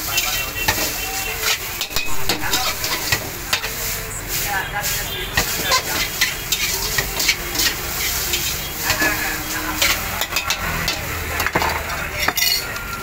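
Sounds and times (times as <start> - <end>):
gas flame roaring: 0.0 - 12.2
metal clanking and scraping on wok: 0.0 - 13.0
noodles sizzling in a wok: 0.0 - 13.0.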